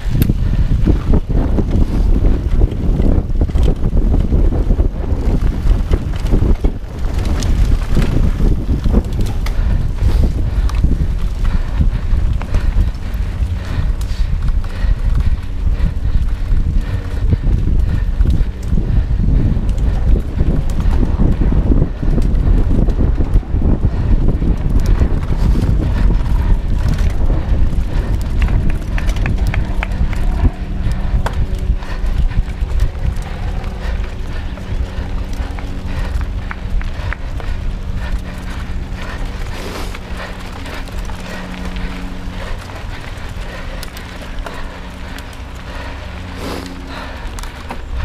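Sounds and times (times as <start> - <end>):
mountain bike rattling over rocks: 0.0 - 48.0
tyres crunching on loose dirt: 0.0 - 48.0
wind buffeting microphone: 0.0 - 48.0.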